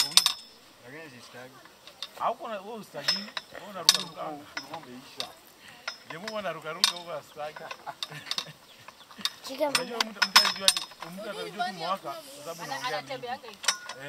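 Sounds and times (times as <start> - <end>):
people's voices: 0.0 - 14.0.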